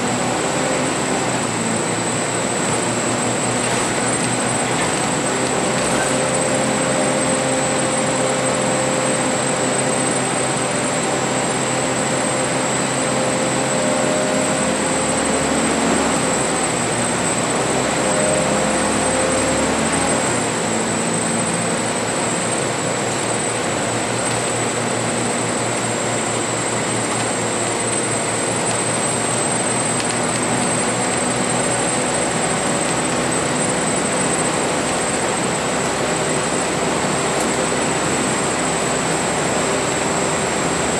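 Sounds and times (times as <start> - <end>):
bus engine drone: 0.0 - 40.9.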